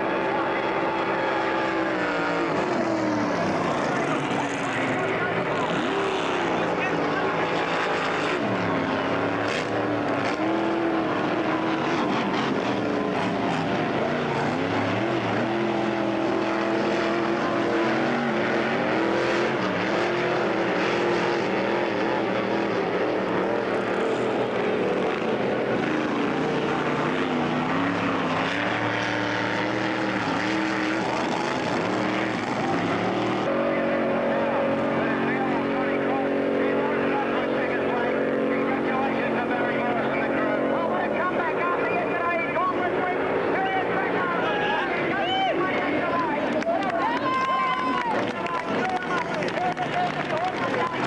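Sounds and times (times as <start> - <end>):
powerboat engine droning: 0.0 - 51.0.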